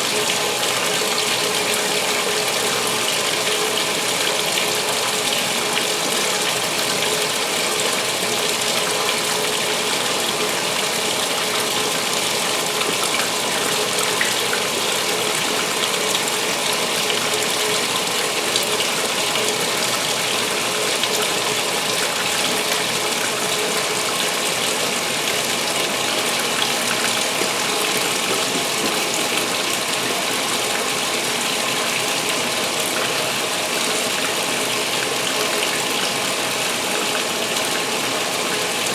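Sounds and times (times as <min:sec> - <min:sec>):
water pouring into washer tub: 0:00.0 - 0:38.9.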